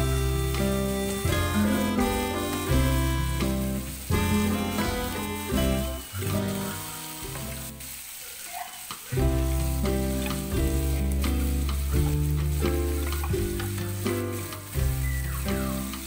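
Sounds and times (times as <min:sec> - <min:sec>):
music with strong bass line: 0:00.0 - 0:06.2, 0:09.2 - 0:16.0
shrimp sizzling in a pan: 0:00.0 - 0:16.0.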